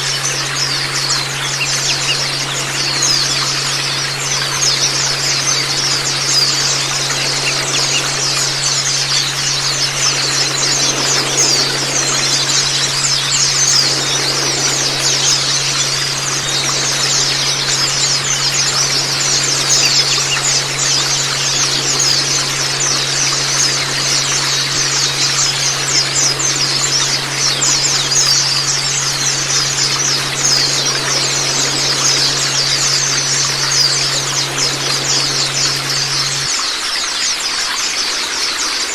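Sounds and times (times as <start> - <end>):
low steady hum: 0.0 - 38.9
rushing water: 0.0 - 38.9
small birds chirping: 0.0 - 38.9.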